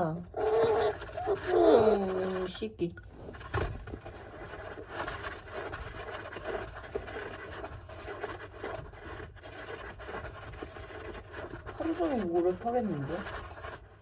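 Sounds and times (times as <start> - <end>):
hamster scratching in sand: 0.0 - 14.0.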